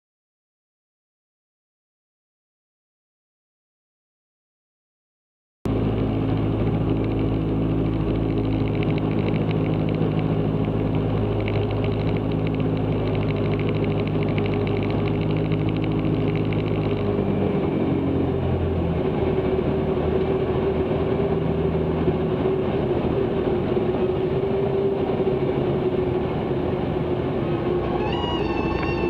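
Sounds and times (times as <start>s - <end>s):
airplane engine droning in cabin: 5.7s - 29.0s.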